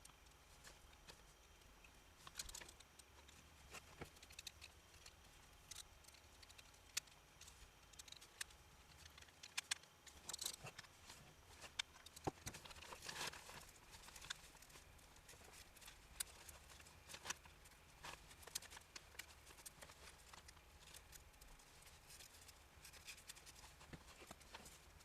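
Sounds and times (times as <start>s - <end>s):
faint clicks and taps: 0.0s - 25.0s.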